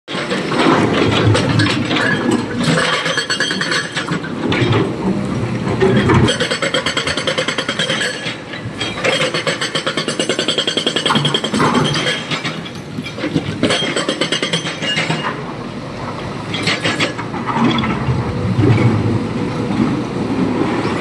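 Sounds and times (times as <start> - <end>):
excavator diesel engine: 0.1 - 21.0.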